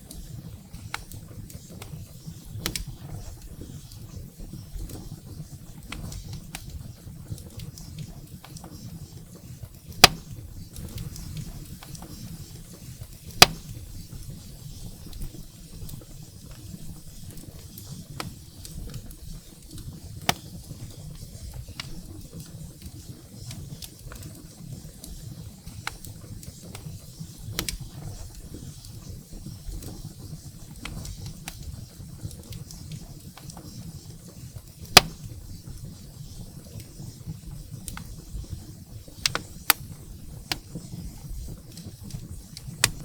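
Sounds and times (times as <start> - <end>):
firewood crackles and pops: 0.0 - 43.0.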